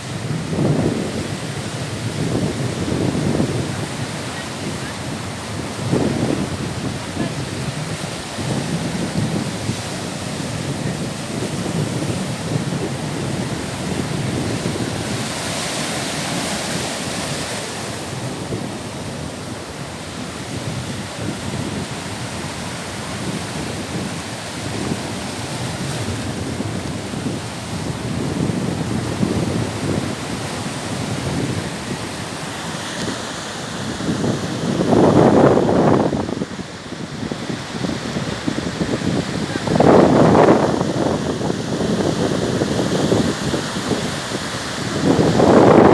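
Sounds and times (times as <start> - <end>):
waves washing onto shore: 0.0 - 45.9
wind buffeting microphone: 0.0 - 45.9.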